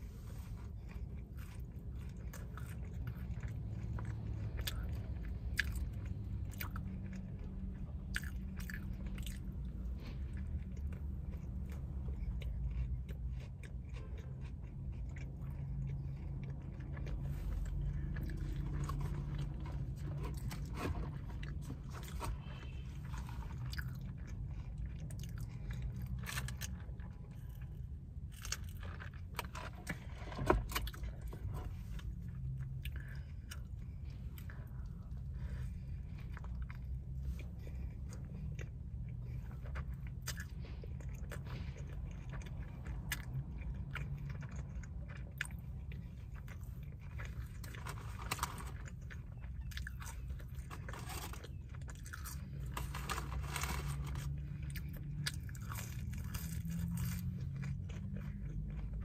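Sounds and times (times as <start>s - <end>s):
chewing and biting: 0.0s - 59.0s
steady low hum: 0.0s - 59.0s.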